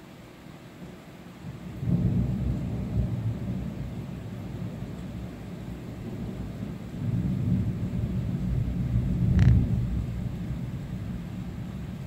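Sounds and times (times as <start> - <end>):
thunder rumbling and cracking: 1.7 - 12.0.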